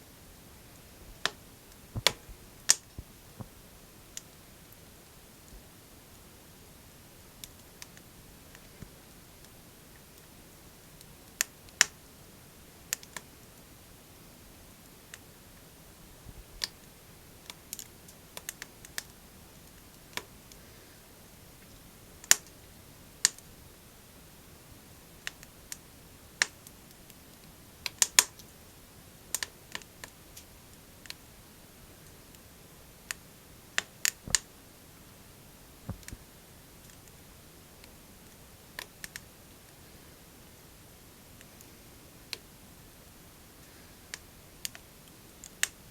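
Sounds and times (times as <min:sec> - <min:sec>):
faint steady hiss: 0:00.0 - 0:45.9
wood fire crackling: 0:00.0 - 0:45.9.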